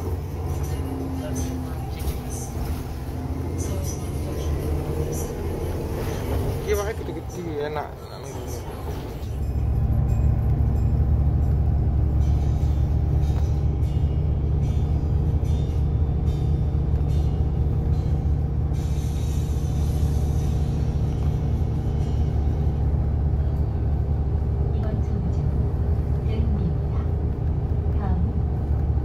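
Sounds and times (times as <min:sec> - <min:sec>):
vehicle engine and tyres rumbling: 0:00.0 - 0:29.0.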